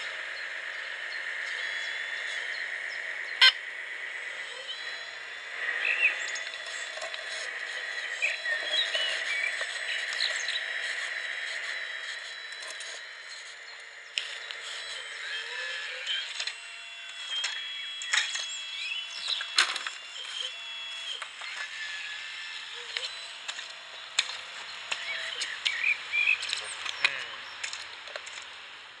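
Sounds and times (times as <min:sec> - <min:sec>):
birds chirping: 0:00.0 - 0:28.7
model excavator hydraulics whining: 0:00.0 - 0:29.0.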